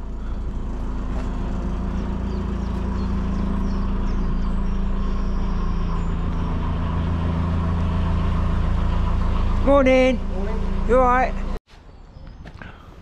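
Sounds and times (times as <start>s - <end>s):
boat engine running: 0.0s - 11.6s.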